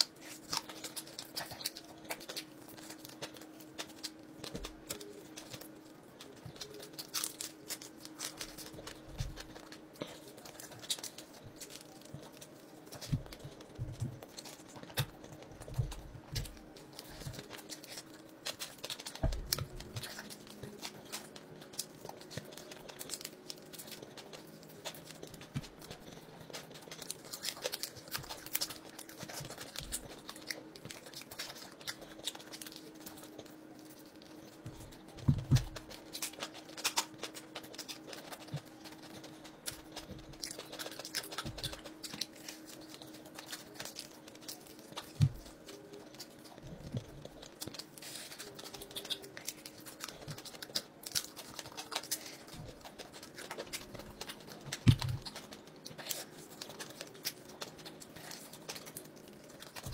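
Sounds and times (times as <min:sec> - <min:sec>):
fried fish crunching: 0:00.0 - 0:59.9
man chewing: 0:00.0 - 0:59.9.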